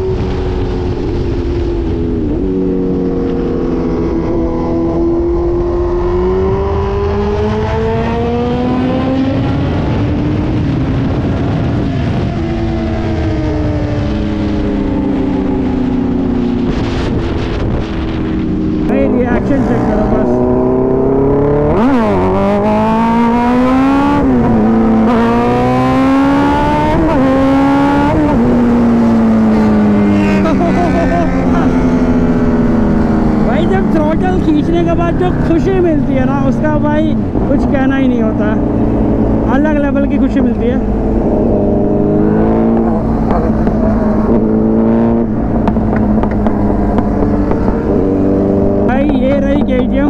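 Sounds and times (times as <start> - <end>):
low wind rumble on microphone: 0.0 - 50.0
motorcycle engine accelerating: 0.0 - 50.0.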